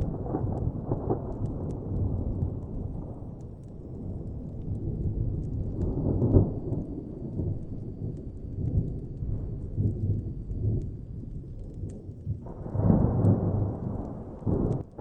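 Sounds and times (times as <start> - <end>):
distant thunder rumbling: 0.0 - 15.0
fire crackling: 0.0 - 15.0.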